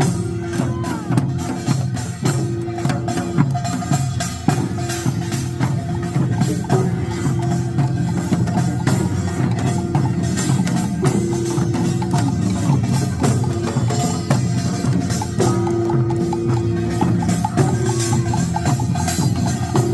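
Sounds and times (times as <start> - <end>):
drums and gongs beating: 0.0 - 19.9.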